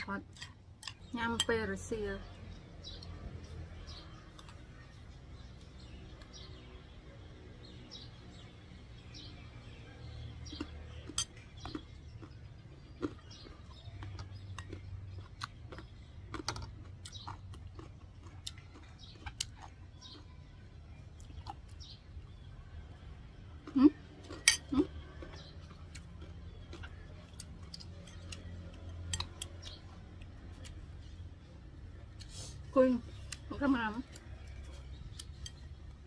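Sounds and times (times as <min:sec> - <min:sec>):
crunchy chewing: 0:02.8 - 0:06.5, 0:09.6 - 0:36.0.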